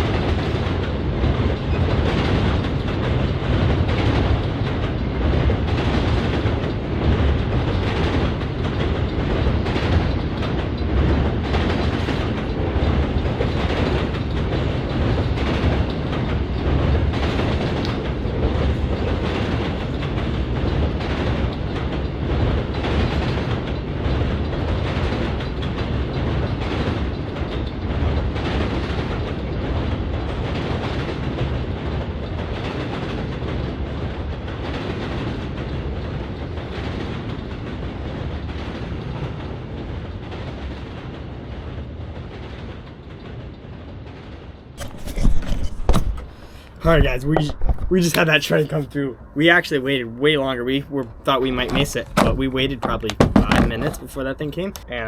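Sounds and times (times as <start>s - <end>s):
wheels clacking over rail joints: 0.0s - 40.8s, 44.8s - 49.0s, 49.6s - 55.0s
freight train rumbling past: 0.0s - 44.8s, 46.2s - 55.0s.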